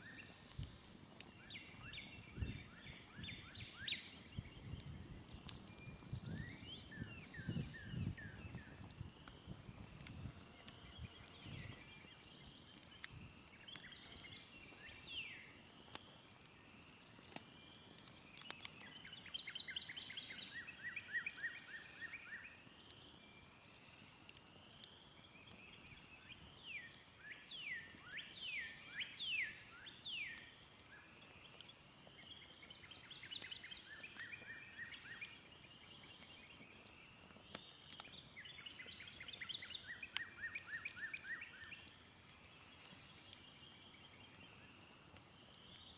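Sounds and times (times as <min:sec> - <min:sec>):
campfire crackling: 0:00.0 - 0:45.9
songbirds singing: 0:00.0 - 0:45.9.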